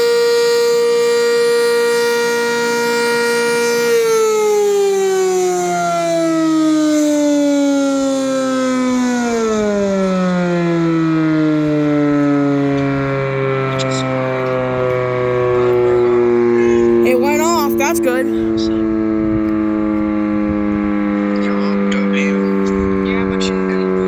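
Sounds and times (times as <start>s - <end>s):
warning siren winding down: 0.0s - 24.0s.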